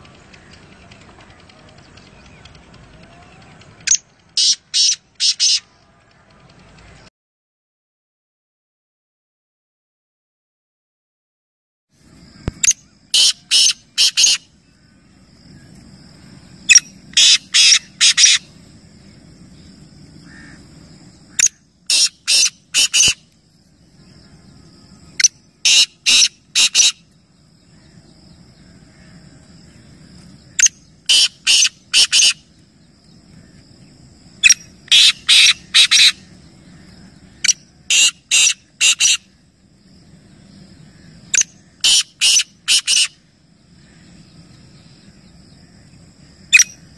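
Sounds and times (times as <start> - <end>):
francolin calling: 0.0 - 7.0, 12.0 - 46.9.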